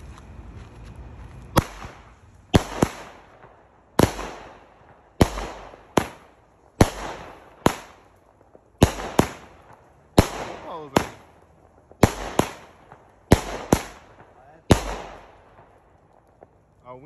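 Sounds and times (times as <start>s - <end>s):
firework bangs: 1.5s - 16.6s.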